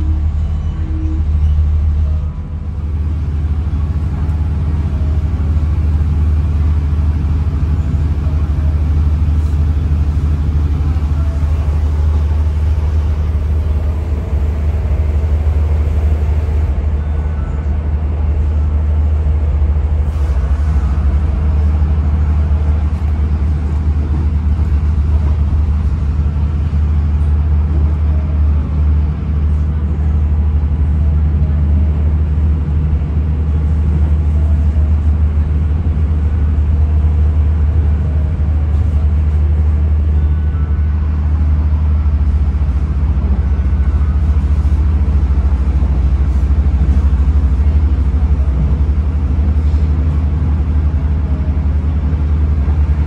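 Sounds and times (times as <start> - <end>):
train rumbling on tracks: 0.0 - 53.0.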